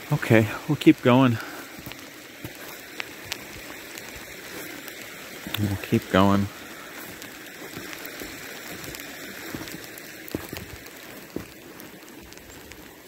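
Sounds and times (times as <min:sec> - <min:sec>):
sleet and rain pattering: 0:00.0 - 0:13.0.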